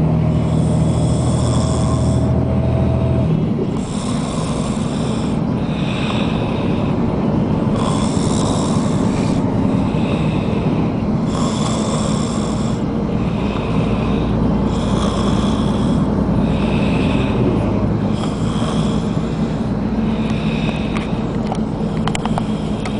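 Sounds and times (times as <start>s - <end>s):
man snoring: 0.0s - 21.3s, 21.9s - 22.9s
vehicle rumble: 0.0s - 22.9s.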